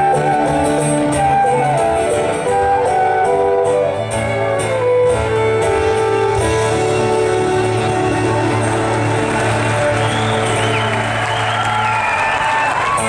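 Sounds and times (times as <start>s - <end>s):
drums: 0.0s - 13.0s
fiddle melody: 0.0s - 13.0s
guitar: 0.0s - 13.0s.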